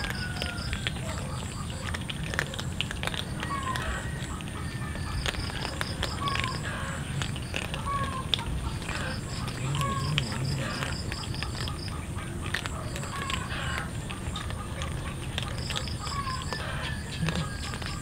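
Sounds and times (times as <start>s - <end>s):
cats crunching dry kibble: 0.0s - 18.0s.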